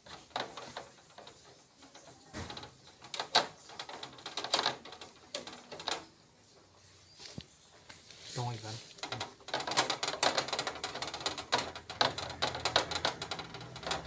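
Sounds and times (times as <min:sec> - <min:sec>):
hand tools and metal parts clattering: 0:00.0 - 0:14.0.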